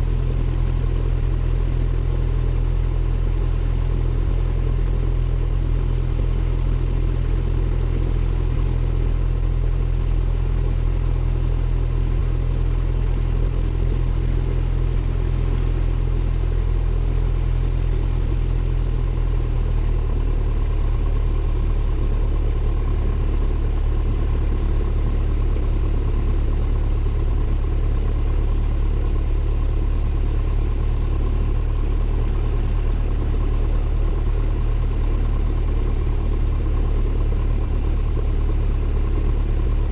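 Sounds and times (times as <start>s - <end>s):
plane engine and propeller drone: 0.0s - 39.9s.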